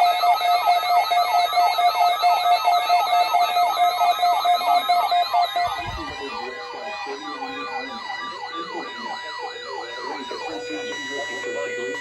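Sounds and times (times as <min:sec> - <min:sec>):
electronic alert sirens wailing: 0:00.0 - 0:12.0.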